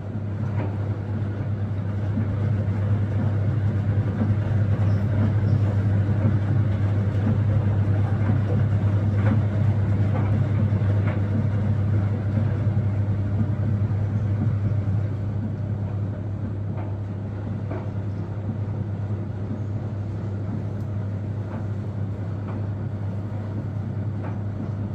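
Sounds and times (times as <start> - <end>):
low mechanical hum: 0.0 - 24.9.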